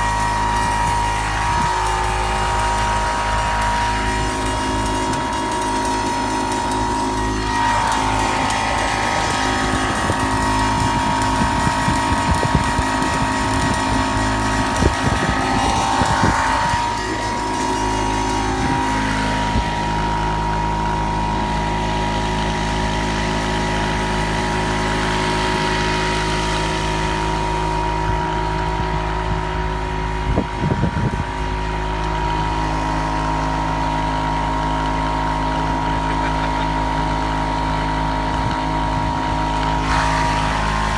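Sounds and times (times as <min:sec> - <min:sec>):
welding arc humming: 0:00.0 - 0:40.9
welding machine drone: 0:00.0 - 0:40.9.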